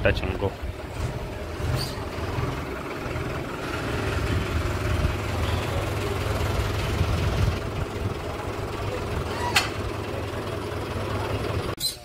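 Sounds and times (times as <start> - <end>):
tractor engine running: 0.0 - 11.8.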